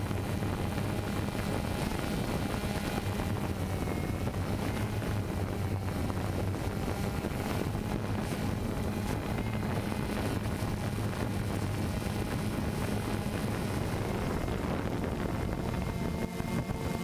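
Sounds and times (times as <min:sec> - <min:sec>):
drone motors hovering: 0:00.0 - 0:17.0.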